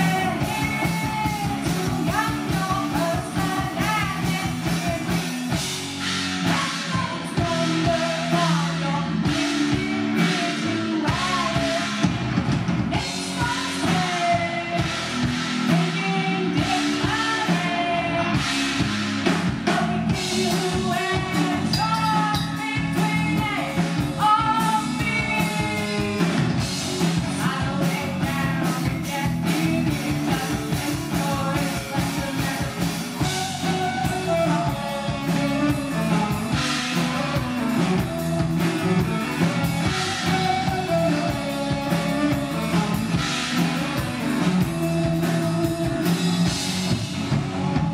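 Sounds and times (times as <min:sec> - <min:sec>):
woman singing: 0:00.0 - 0:05.6, 0:06.4 - 0:12.2, 0:12.9 - 0:18.6, 0:19.6 - 0:26.4, 0:27.0 - 0:46.3
drum kit: 0:00.0 - 0:47.9
electric bass: 0:00.0 - 0:47.9
electric guitar: 0:00.0 - 0:47.9.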